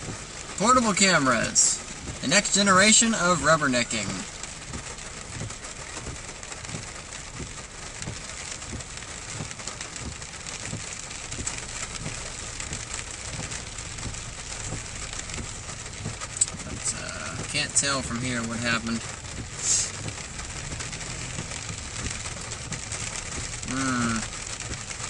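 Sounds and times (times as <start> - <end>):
rain on vehicle roof: 0.0 - 25.0.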